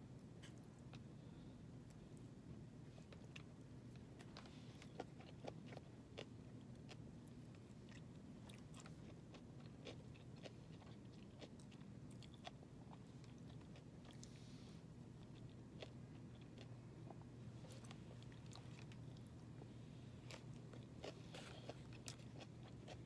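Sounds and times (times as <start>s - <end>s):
steady low hum: 0.0s - 23.0s
chewing and crunching: 1.8s - 23.0s.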